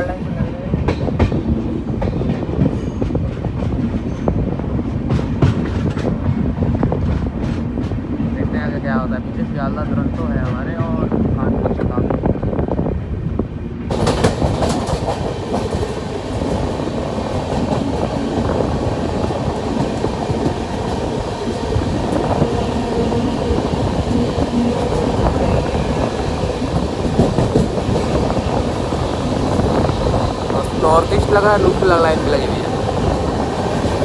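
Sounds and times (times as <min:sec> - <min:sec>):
train wheels clattering on rails: 0:00.2 - 0:08.4, 0:13.9 - 0:34.0.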